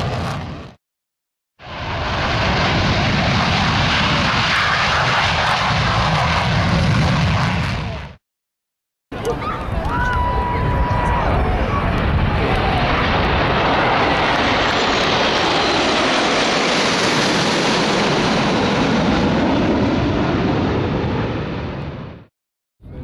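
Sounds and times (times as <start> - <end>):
military jets roaring overhead: 0.0 - 0.8, 1.6 - 8.2, 9.2 - 23.0.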